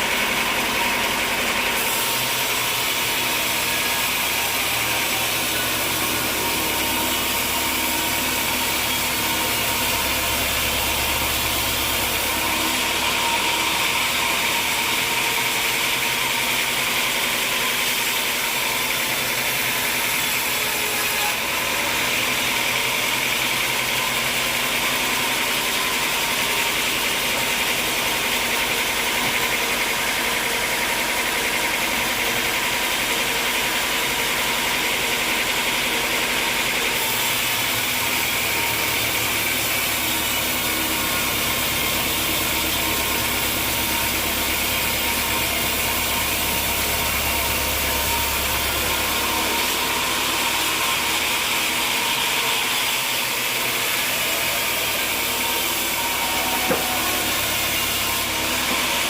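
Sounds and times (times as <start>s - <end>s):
engine-driven machine running: 0.0s - 59.0s.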